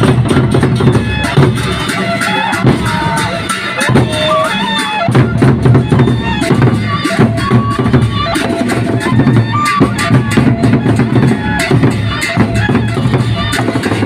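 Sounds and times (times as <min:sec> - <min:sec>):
big drums beating: 0:00.0 - 0:14.0.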